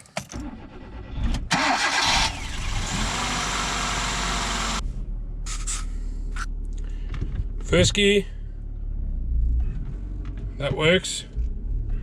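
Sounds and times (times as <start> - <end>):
car engine starting and idling: 0.3 - 5.5, 6.1 - 12.0.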